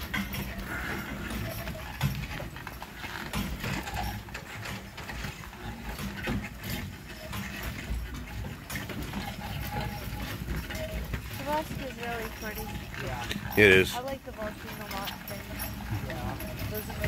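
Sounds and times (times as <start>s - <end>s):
horse hooves plodding on snow: 0.0s - 17.0s
sleigh and harness rattling: 0.0s - 17.0s.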